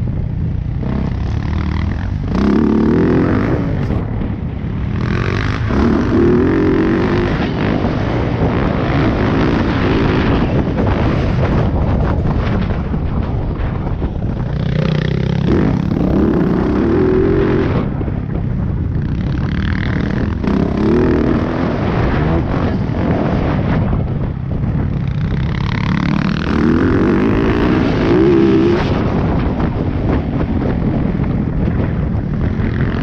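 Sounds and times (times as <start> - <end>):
dirt bike engine revving: 0.0 - 12.8, 13.9 - 33.0
wind rush on microphone: 0.0 - 33.0.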